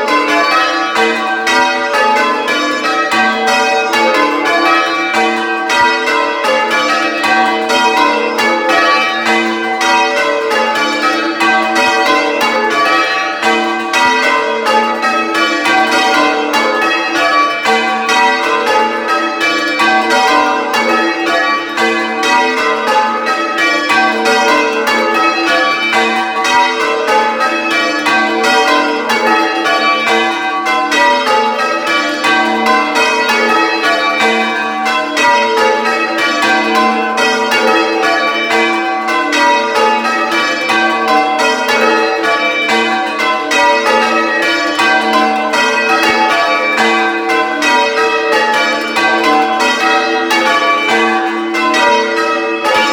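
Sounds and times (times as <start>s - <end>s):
church bells ringing: 0.0s - 52.9s.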